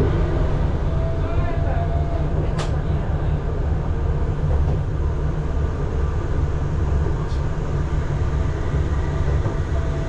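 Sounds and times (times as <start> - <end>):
tram running inside cabin: 0.0 - 10.0.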